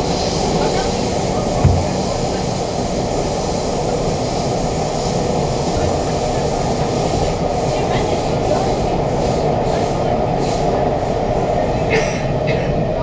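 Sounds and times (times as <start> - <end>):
metro train wheels rumbling: 0.0 - 13.0.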